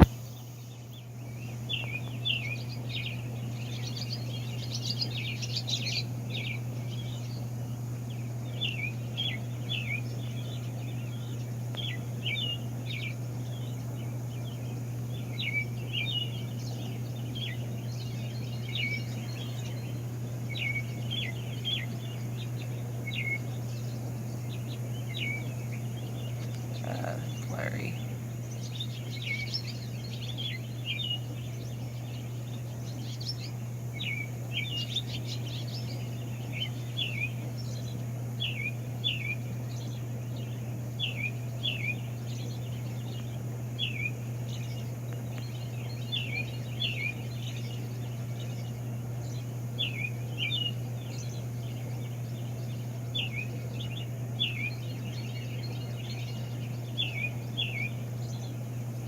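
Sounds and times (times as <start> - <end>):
songbirds whistling: 0.0 - 59.0
steady low hum: 0.0 - 59.0.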